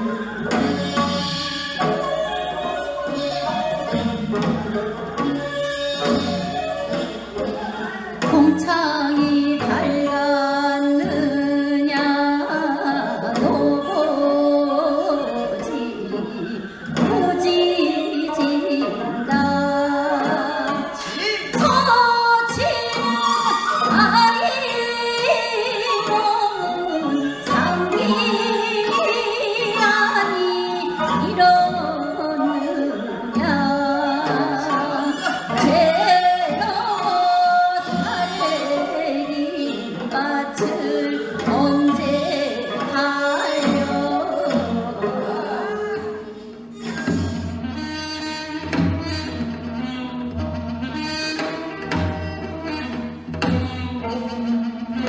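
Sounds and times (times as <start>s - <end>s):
folk singing with wavering notes: 0.0s - 51.2s.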